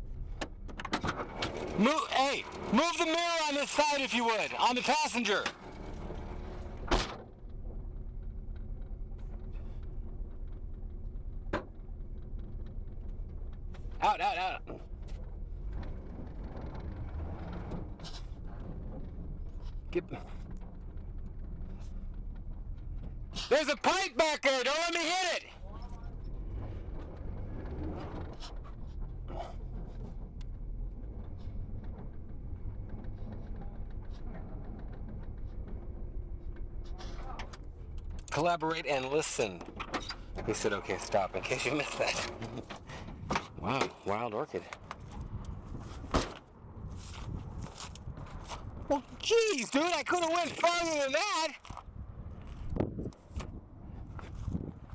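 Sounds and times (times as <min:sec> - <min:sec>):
car engine idling: 0:00.0 - 0:24.2, 0:24.8 - 0:45.8.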